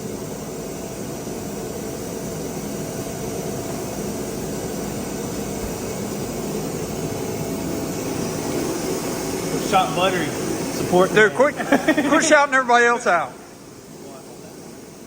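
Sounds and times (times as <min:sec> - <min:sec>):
machine whooshing with hum: 0:00.0 - 0:15.0.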